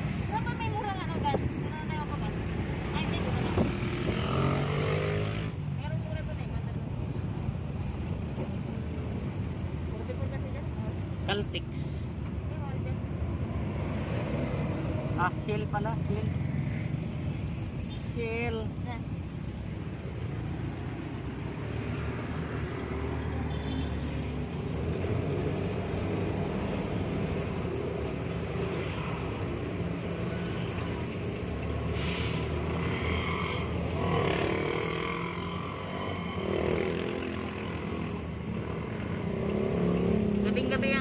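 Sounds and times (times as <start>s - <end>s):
surrounding traffic noise: 0.0s - 41.0s.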